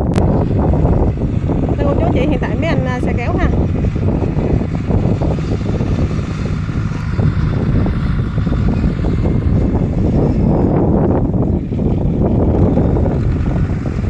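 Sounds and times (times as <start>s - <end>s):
tractor engine running: 0.0s - 14.0s
wind buffeting microphone: 0.0s - 14.0s.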